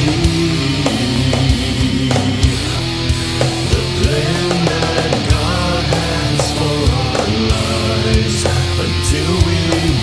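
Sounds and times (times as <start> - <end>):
electric guitars: 0.0 - 10.0
heavy metal song: 0.0 - 10.0.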